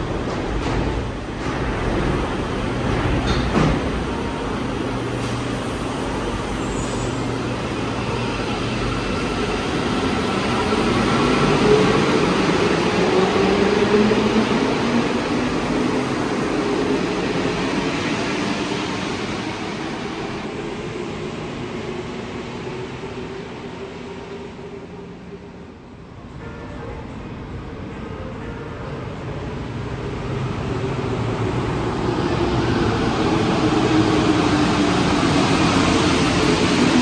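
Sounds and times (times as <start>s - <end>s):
metro train running noise: 0.0s - 37.0s.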